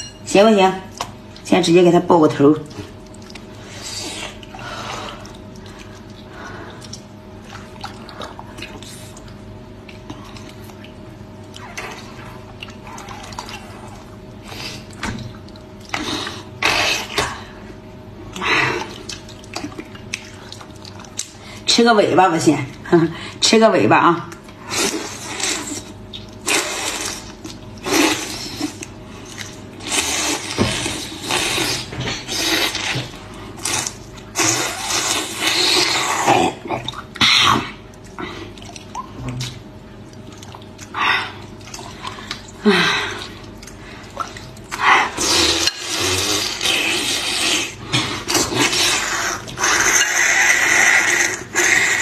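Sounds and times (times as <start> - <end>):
wet slurping and chewing: 2.6 - 17.7, 18.3 - 21.4, 24.4 - 52.0.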